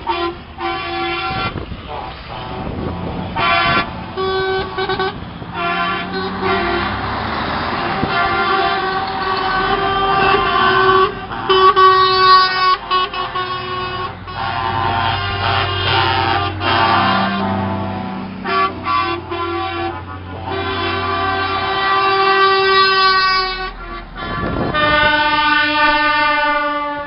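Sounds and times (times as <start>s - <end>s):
low rumble of engines: 0.0s - 27.0s
vehicle horns honking: 0.0s - 27.0s.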